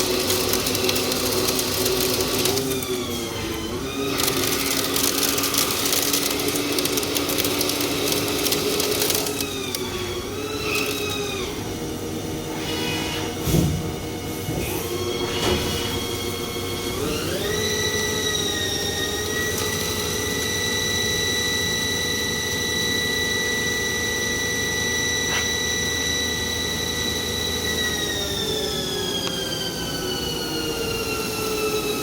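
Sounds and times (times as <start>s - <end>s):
lathe spindle whining: 0.0s - 13.0s, 14.9s - 32.0s.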